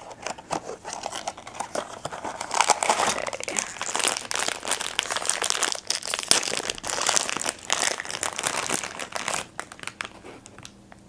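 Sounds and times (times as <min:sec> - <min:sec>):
foil wrapper crackling: 0:00.2 - 0:10.7.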